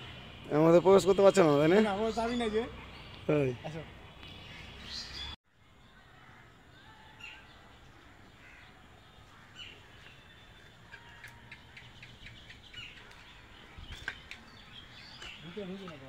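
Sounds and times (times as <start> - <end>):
birds chirping and calling: 0.0 - 5.4, 6.2 - 16.0.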